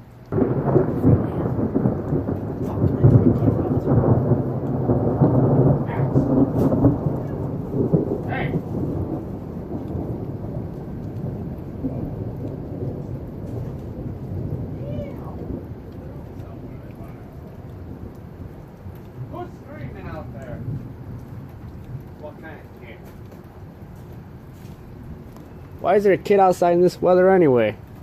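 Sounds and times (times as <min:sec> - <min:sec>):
rain falling: 0:00.0 - 0:28.0
thunder rolling: 0:00.0 - 0:28.0.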